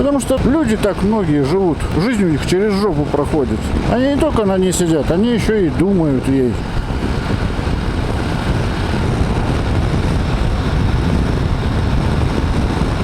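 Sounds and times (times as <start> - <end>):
motorcycle engine rumble: 0.0 - 13.0
road noise: 0.0 - 13.0
wind buffeting microphone: 0.0 - 13.0
wind rush: 0.0 - 13.0.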